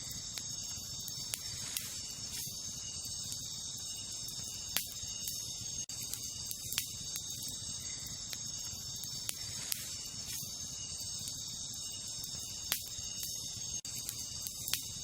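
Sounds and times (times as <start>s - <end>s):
campfire crackling and popping: 0.0s - 15.0s
night insects chorus: 0.0s - 15.0s.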